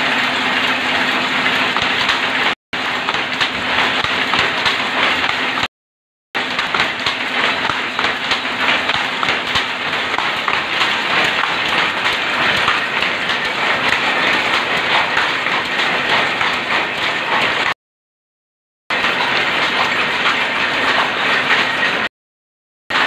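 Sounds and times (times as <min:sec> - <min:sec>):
loom clattering: 0:00.0 - 0:05.7, 0:06.4 - 0:17.8, 0:18.9 - 0:22.1.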